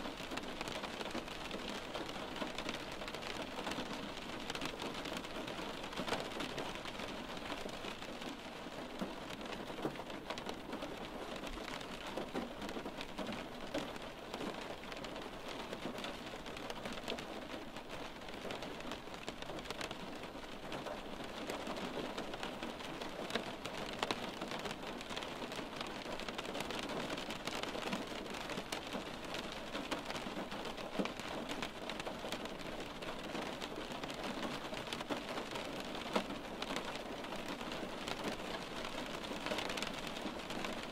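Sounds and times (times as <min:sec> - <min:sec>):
rain on window glass: 0:00.0 - 0:40.9.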